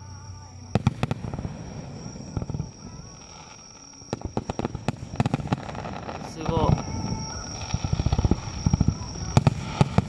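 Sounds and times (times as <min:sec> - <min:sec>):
fireworks crackling: 0:00.0 - 0:10.0
fireworks bangs: 0:00.7 - 0:10.0.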